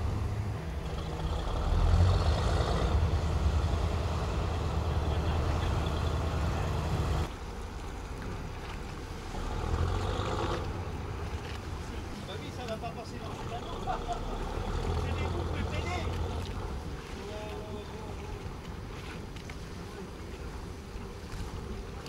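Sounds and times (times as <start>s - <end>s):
barge engine rumbling: 0.0s - 22.0s.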